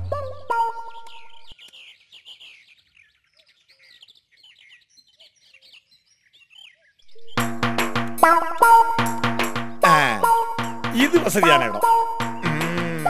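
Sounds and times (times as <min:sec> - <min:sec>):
small birds chirping and twittering: 0:00.0 - 0:12.8.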